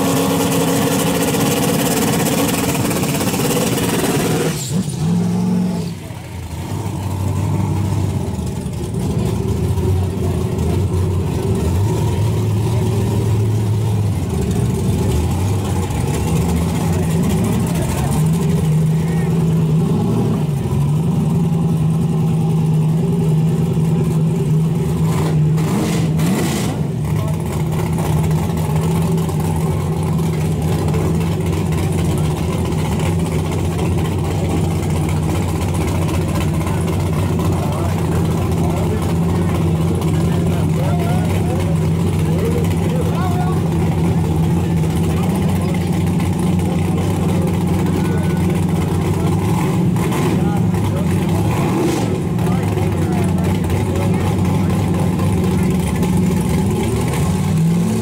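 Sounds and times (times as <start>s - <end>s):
race car engine idling: 0.0s - 58.0s.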